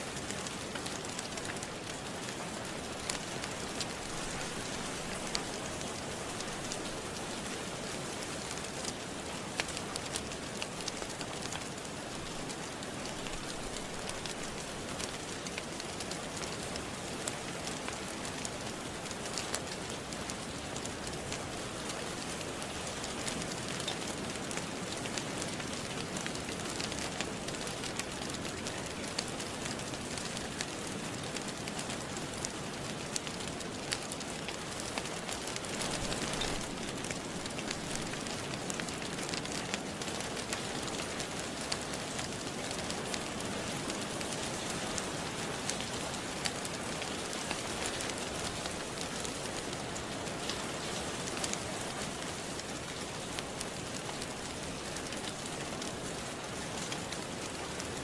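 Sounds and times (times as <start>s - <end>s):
rain falling: 0.0s - 58.0s
wood fire crackling: 0.0s - 58.0s.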